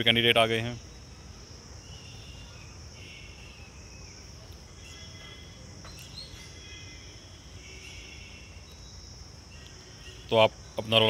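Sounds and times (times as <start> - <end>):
bird chirps: 0.0 - 11.0
high-pitched insect drone: 0.0 - 11.0.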